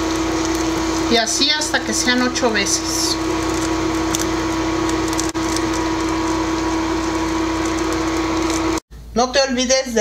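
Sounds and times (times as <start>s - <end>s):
food sizzling in oil: 0.0s - 8.8s
steady hum: 0.0s - 9.2s.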